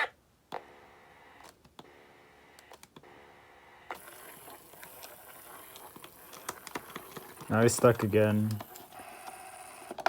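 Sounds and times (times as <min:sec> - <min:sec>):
small motor humming and clicking: 0:00.5 - 0:10.0.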